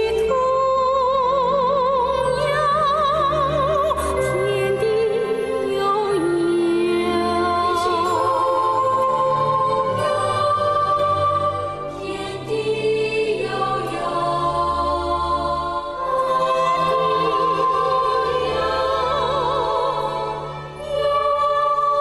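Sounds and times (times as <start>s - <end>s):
music accompaniment: 0.0s - 22.0s
person singing with vibrato: 0.0s - 22.0s.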